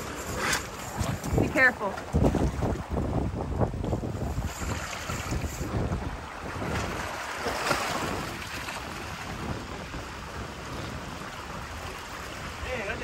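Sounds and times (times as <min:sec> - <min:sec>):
sea waves against rocks: 0:00.0 - 0:13.0
wind buffeting microphone: 0:00.0 - 0:13.0.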